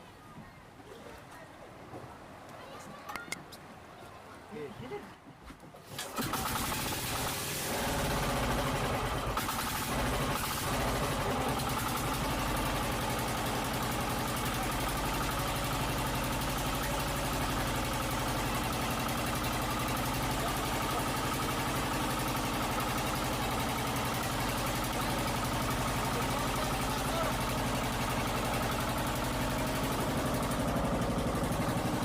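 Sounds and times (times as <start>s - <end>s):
boat engine running: 6.0s - 32.0s.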